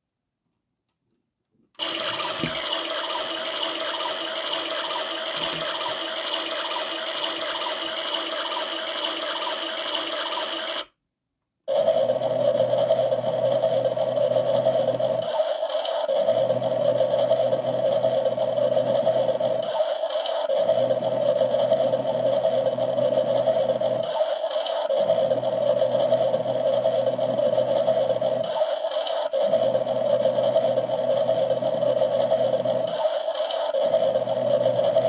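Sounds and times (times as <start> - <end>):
washing machine whirring: 1.8 - 10.9, 11.7 - 35.0.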